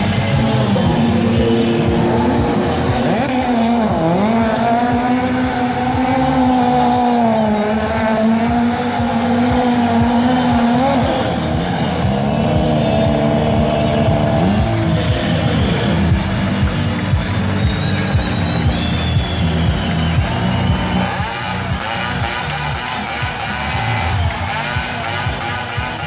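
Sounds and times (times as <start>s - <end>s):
racing motorcycle engine revving: 0.0s - 26.0s.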